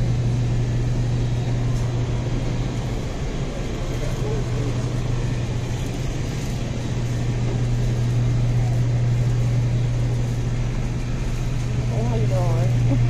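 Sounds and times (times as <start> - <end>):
steady low hum: 0.0 - 13.0
store background noise: 0.0 - 13.0.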